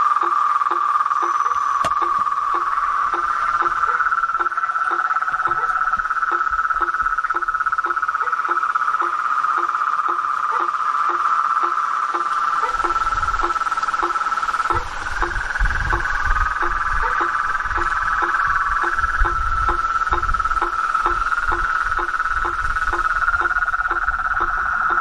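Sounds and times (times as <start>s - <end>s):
crickets trilling: 0.0s - 25.0s
lower repeating insect call: 0.0s - 25.0s.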